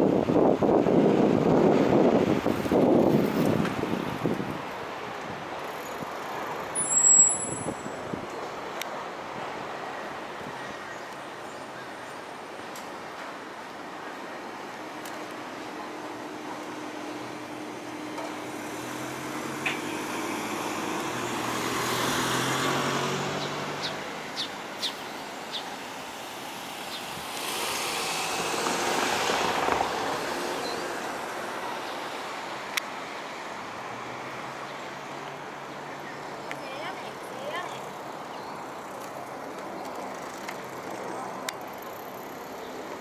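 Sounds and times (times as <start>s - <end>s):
traffic background: 0.0s - 43.0s
vehicles passing: 0.0s - 43.0s.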